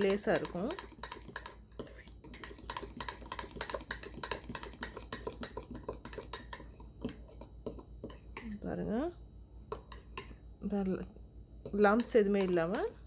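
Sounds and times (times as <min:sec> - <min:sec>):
batter stirring: 0:00.0 - 0:08.7, 0:09.6 - 0:10.5, 0:11.6 - 0:13.0.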